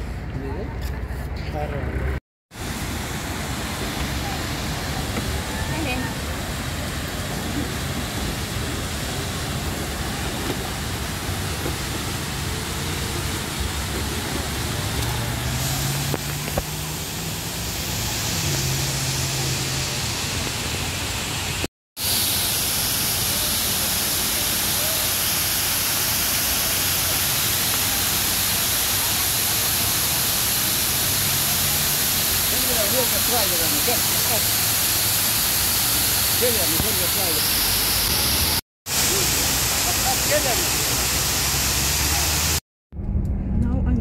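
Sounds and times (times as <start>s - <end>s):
waterfall rushing: 2.5s - 42.6s.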